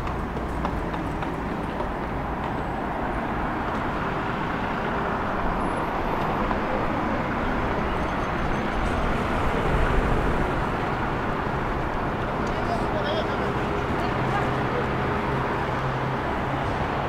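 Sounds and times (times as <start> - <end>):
passing cars and buses: 0.0 - 17.0.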